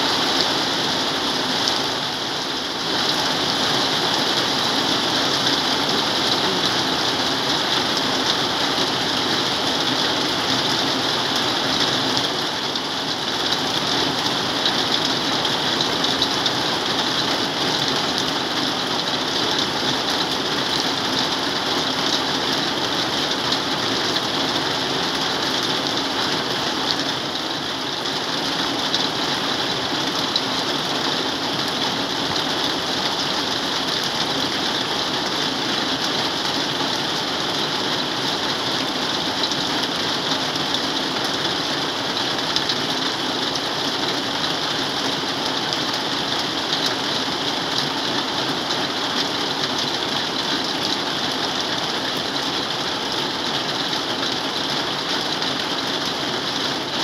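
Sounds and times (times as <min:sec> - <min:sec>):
heavy rain on metal roof: 0:00.0 - 0:57.0.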